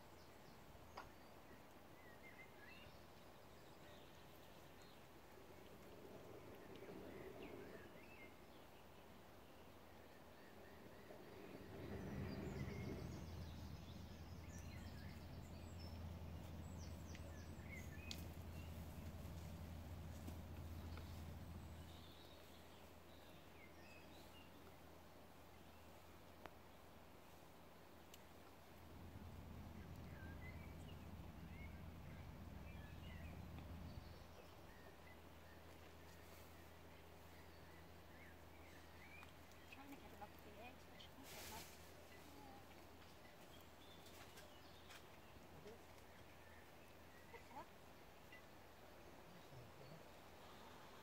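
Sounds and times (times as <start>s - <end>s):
low steady rumble: 0.0s - 51.0s
small birds chirping: 0.0s - 51.0s.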